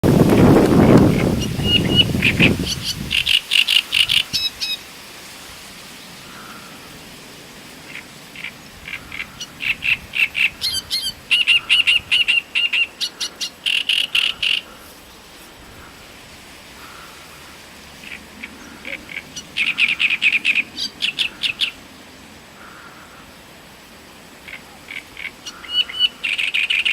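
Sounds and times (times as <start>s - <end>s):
reed warbler singing: 0.0s - 5.1s, 7.8s - 23.6s, 24.3s - 26.9s.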